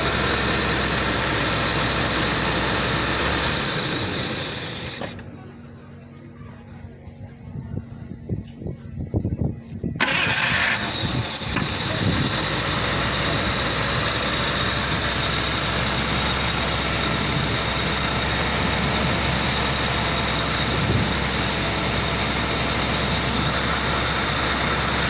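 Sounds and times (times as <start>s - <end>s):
car engine idling: 0.0s - 7.1s, 10.0s - 25.0s.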